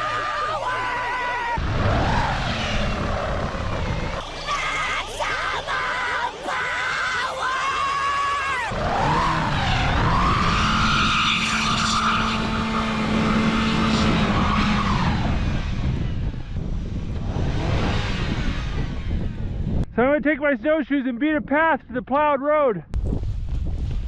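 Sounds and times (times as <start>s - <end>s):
car engine revving: 0.0s - 19.8s
wheels spinning in snow: 0.0s - 19.8s.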